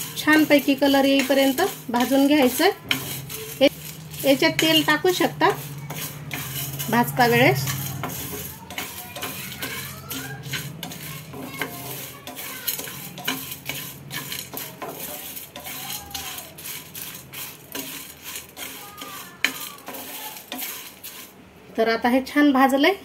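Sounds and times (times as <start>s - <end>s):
wooden spatula scraping frying pan: 0.0s - 21.8s
spices rattling in pan: 0.0s - 22.6s.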